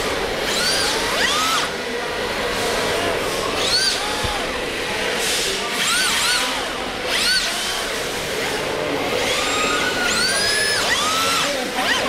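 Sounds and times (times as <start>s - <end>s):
rc car electric motors whining: 0.0s - 12.0s.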